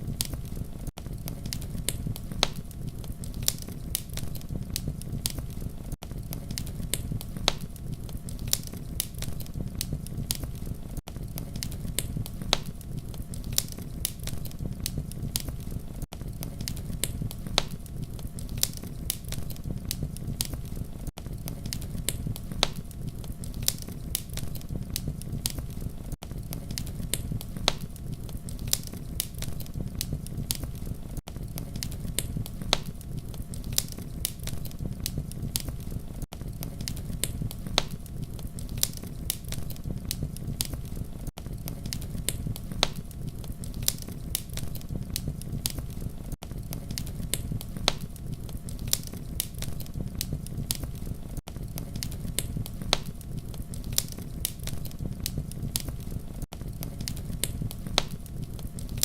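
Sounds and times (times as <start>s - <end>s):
burning wood popping: 0.0s - 59.0s
campfire flames rumbling: 0.0s - 59.0s.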